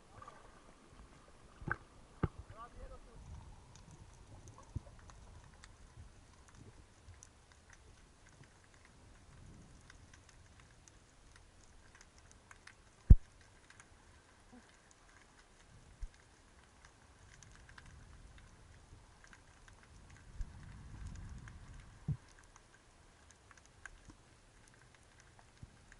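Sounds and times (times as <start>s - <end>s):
underwater crackle of tiny clicks: 0.0s - 25.9s.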